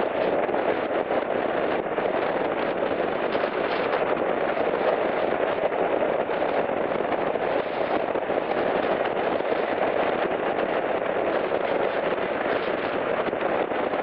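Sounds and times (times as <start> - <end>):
fast crackle: 0.0 - 14.0
road noise: 0.0 - 14.0
wind buffeting microphone: 0.0 - 14.0.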